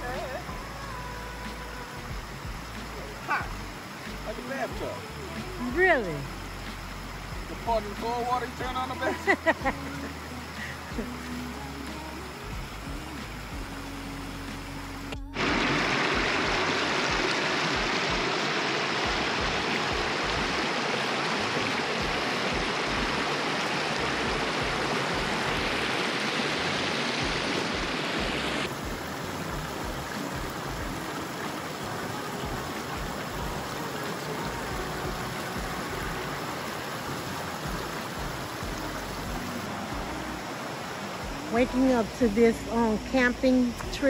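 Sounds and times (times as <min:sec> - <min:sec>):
creek water rushing over rocks: 0:00.0 - 0:44.0.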